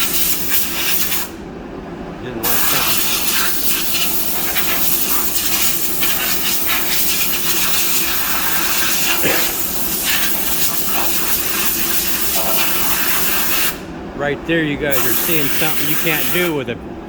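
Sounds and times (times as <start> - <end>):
powder coating gun hissing: 0.0 - 1.4, 2.4 - 13.8, 14.9 - 16.6.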